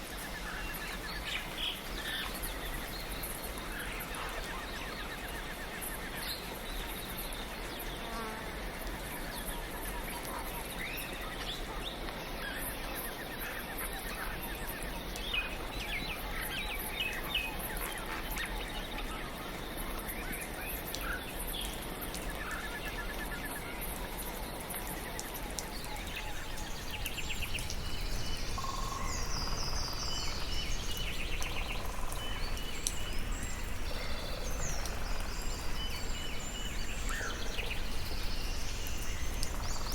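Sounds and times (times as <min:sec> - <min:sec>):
soft rain hissing: 0:00.0 - 0:39.9
songbirds chirping and trilling: 0:00.0 - 0:39.9.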